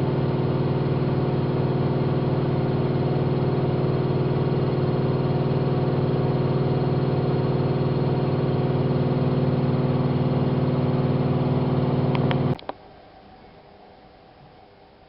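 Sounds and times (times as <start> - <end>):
washing machine spinning hum: 0.0 - 15.0.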